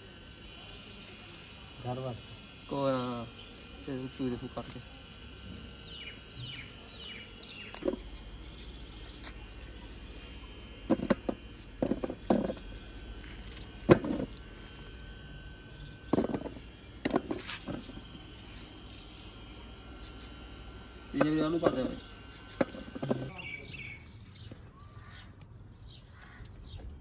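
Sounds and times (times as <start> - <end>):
faint insect-like chirring: 0.0 - 27.0.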